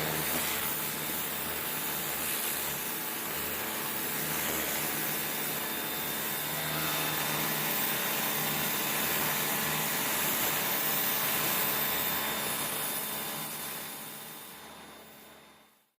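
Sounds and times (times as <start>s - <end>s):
pressure washer motor hum: 0.0s - 15.3s
pressure washer water jet hissing: 0.0s - 15.3s.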